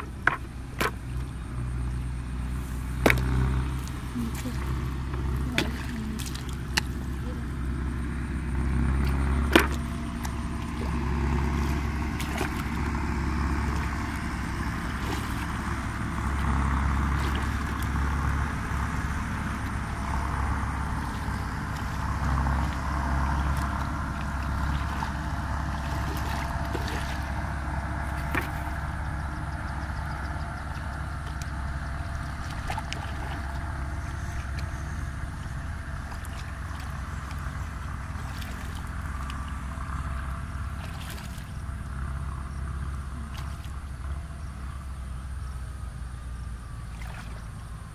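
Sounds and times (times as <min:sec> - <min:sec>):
low engine-like drone: 0:00.0 - 0:47.9
splashing in muddy water: 0:00.0 - 0:47.9.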